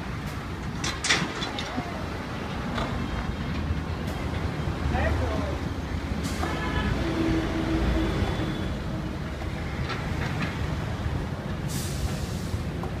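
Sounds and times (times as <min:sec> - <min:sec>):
heavy vehicle engines rumbling: 0:00.0 - 0:13.0.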